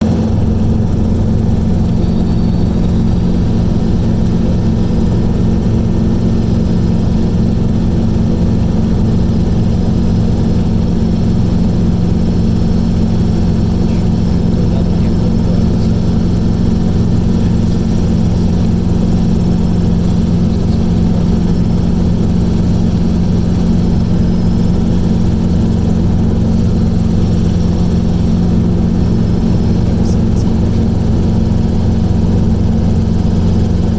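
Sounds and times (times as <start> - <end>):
light aircraft engine drone: 0.0 - 33.9.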